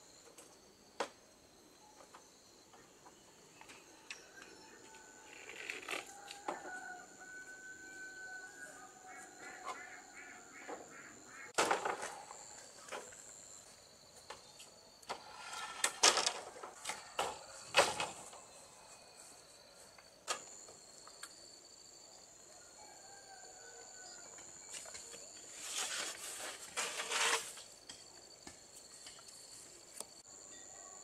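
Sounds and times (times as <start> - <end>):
insects chirring: 0.0 - 30.7.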